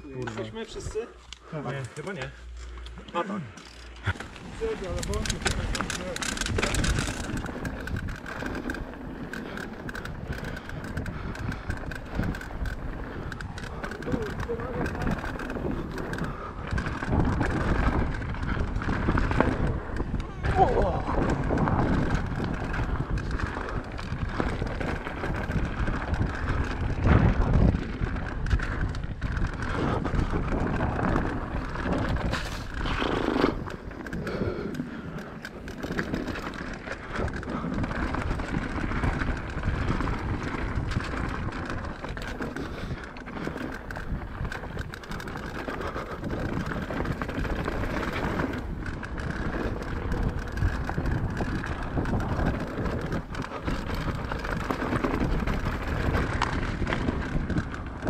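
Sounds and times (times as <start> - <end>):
bike rattling: 0.0 - 58.0
bike tyres rolling over rough ground: 0.0 - 58.0
wind on microphone: 4.0 - 58.0.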